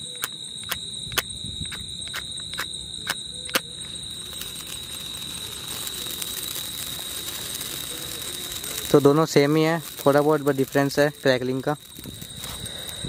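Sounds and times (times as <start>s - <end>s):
sharp clicks: 0.0s - 13.0s
sparkler fizzing: 0.0s - 13.0s
match striking: 0.1s - 13.0s.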